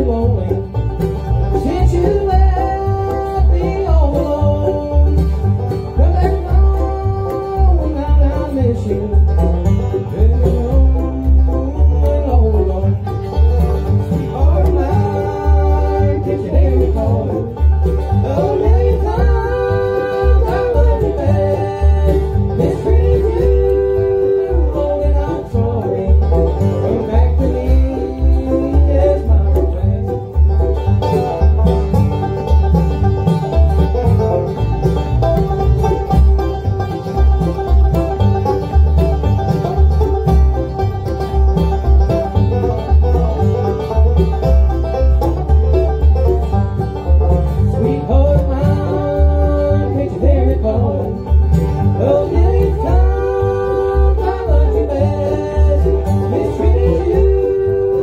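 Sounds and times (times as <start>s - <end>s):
bluegrass band playing: 0.0s - 58.0s
upright bass plucking: 0.0s - 58.0s.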